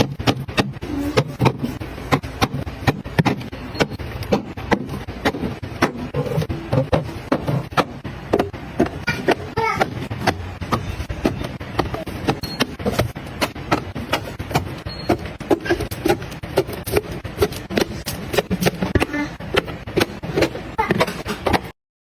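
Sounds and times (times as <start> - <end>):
objects clicking and tapping: 0.0 - 21.7.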